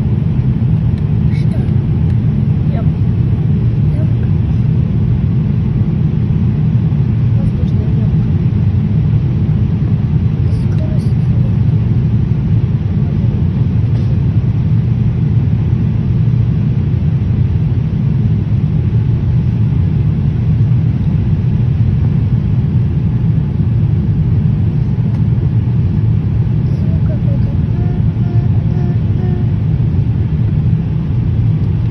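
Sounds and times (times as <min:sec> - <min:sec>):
airliner cabin rumble: 0:00.0 - 0:31.9.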